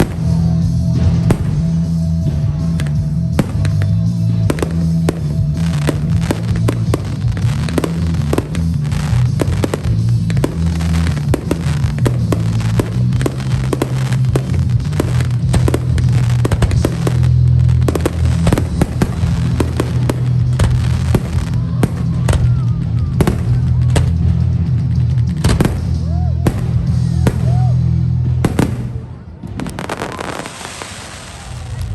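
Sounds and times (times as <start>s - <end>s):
loud music with heavy bass: 0.0s - 30.5s
fireworks bangs and crackles: 0.0s - 31.9s.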